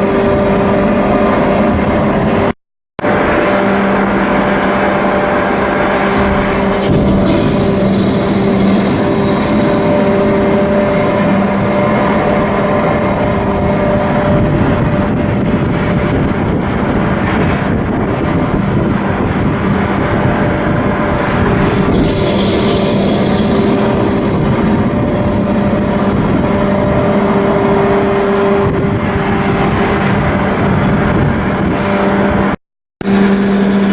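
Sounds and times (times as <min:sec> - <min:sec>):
marine diesel engine running: 0:00.0 - 0:33.9.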